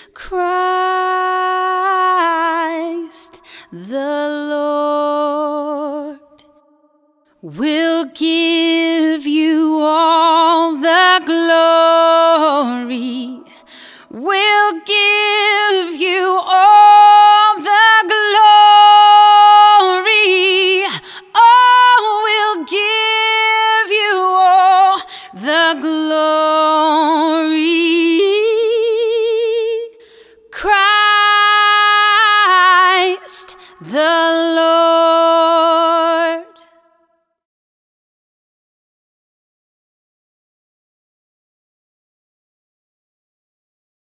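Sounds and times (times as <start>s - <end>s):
woman singing unaccompanied: 0.2s - 6.4s, 7.4s - 36.8s.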